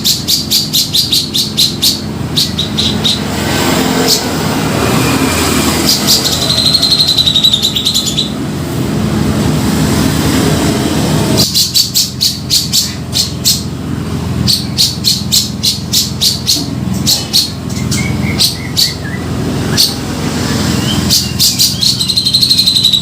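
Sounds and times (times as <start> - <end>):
bird calls trilling and chipping: 0.0 - 8.5, 11.4 - 23.0.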